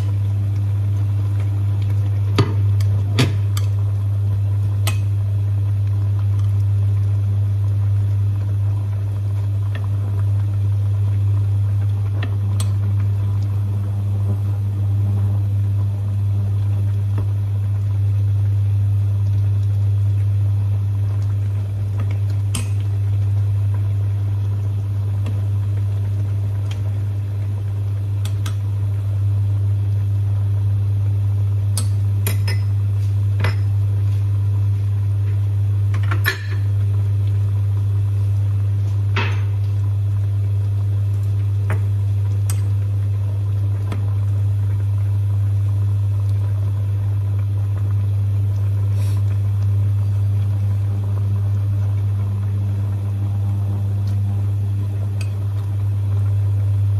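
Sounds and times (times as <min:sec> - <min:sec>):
low electrical hum: 0:00.0 - 0:56.9.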